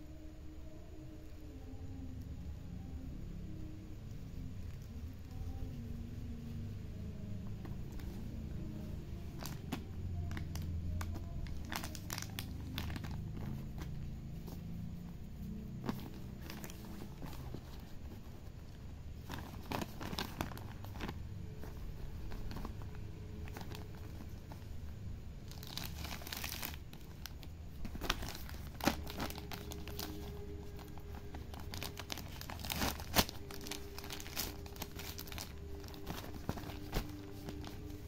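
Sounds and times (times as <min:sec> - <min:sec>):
plastic bag crinkling: 0:07.5 - 0:38.0.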